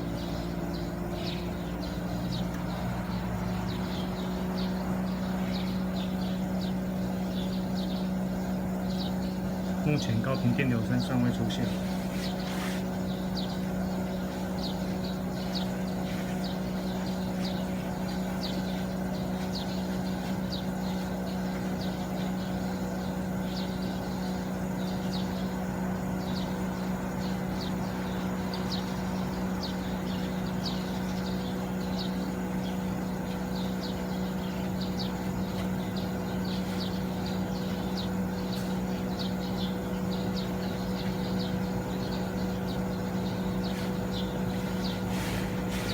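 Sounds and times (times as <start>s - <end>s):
air conditioner humming: 0.0s - 45.9s.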